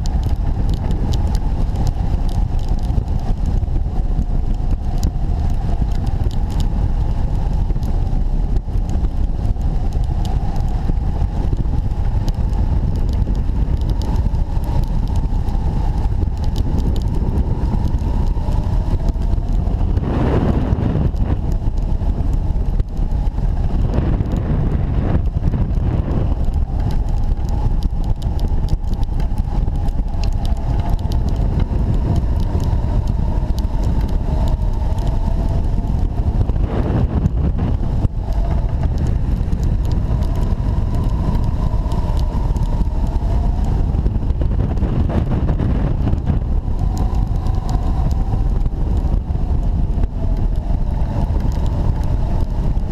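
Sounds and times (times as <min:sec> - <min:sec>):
wind buffeting: 0:00.0 - 0:52.9.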